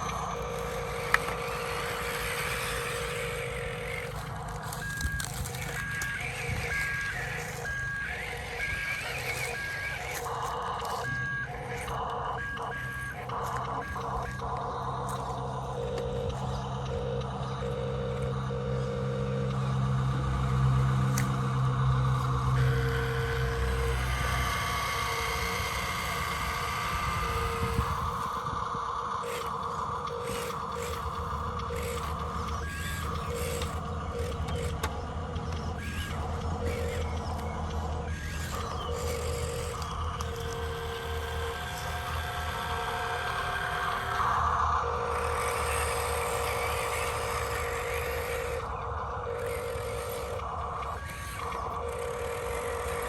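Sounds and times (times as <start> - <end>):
electric motor and gears whirring: 0.0 - 53.0
low engine hum: 0.0 - 53.0
reversing alarm beeping: 0.0 - 53.0
rough buzzing: 0.0 - 53.0.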